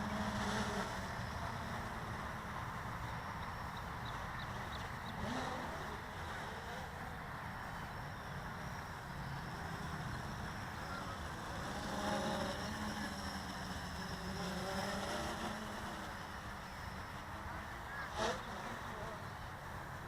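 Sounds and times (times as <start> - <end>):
quadcopter motors humming: 0.0 - 20.0.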